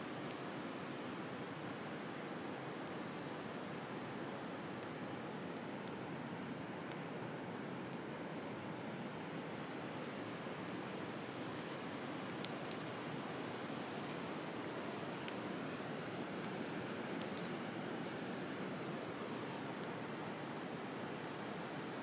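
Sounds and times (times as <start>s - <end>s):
wood fire crackles: 0.1s - 22.0s.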